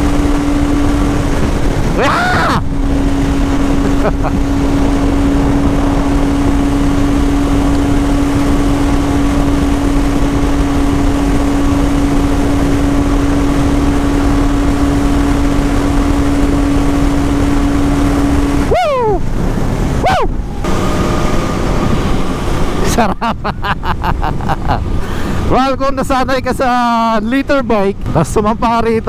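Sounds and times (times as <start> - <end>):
motorcycle engine at high revs: 0.0 - 26.2
wind rush: 0.0 - 29.0.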